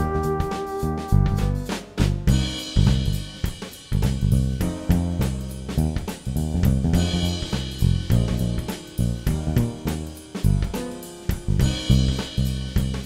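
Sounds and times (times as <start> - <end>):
drum kit steady beat: 0.0 - 13.0
low bass notes: 0.0 - 13.0.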